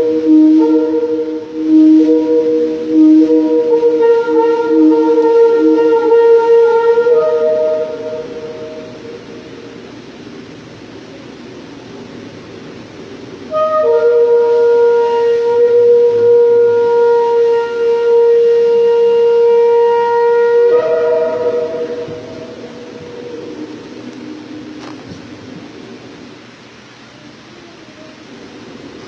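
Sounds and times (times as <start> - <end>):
long horn-like note: 0.0 - 10.2, 13.4 - 26.8
faint sustained tones: 0.0 - 29.0.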